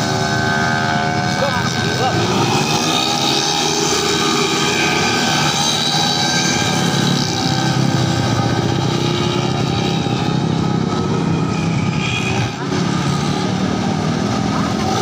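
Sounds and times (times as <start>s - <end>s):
scooter engines whining at high revs: 0.0s - 15.0s.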